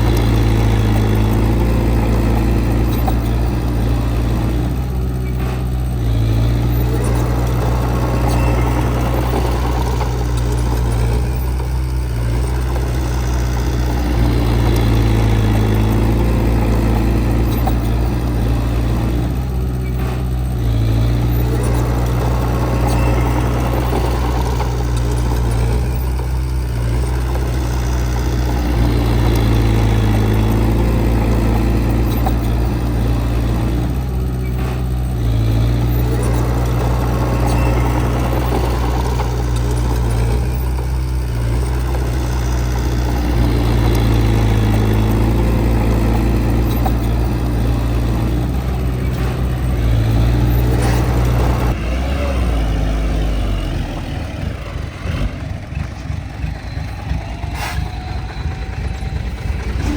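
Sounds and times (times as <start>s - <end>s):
heavy diesel machine engine running: 0.0s - 59.9s.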